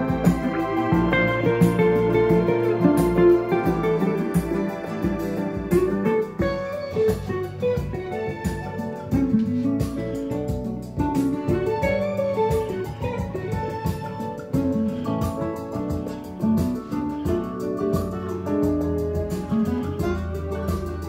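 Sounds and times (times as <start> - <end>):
guitar music from record player: 0.0 - 21.0.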